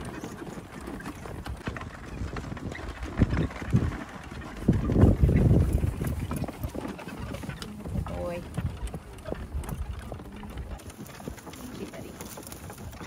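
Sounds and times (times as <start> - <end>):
horse hooves clip-clopping: 0.0 - 13.0
wind buffeting microphone: 0.0 - 13.0.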